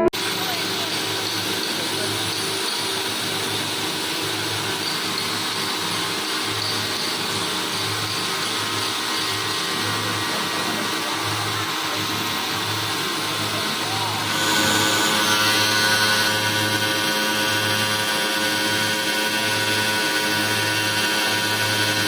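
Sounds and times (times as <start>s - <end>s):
cutting machine motor whir: 0.0s - 22.0s.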